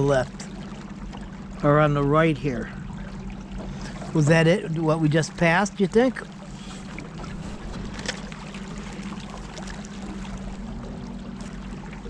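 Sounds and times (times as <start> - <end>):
motorboat engine running: 0.0 - 12.0
water splashing along hull: 0.0 - 12.0.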